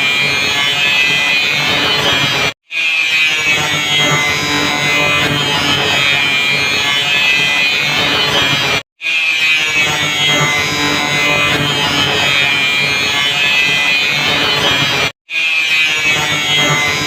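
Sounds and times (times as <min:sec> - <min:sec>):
angle grinder cutting: 0:00.1 - 0:17.0.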